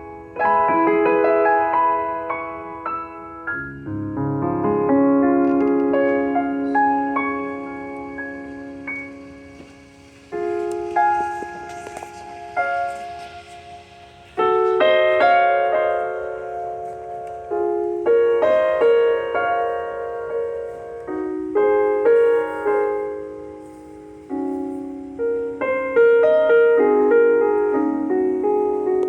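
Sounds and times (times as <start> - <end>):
piano playing slow chords: 0.0 - 29.0.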